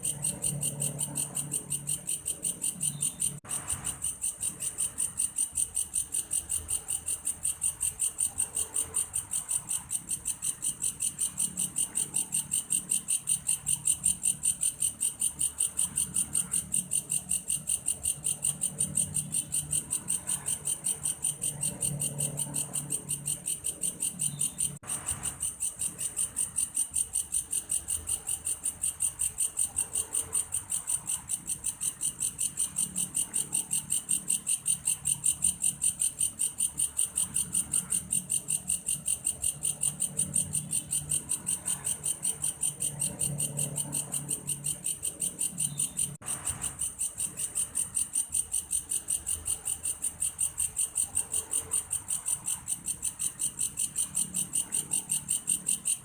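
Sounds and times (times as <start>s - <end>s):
insect shrill pulsed trill: 0.0s - 56.0s.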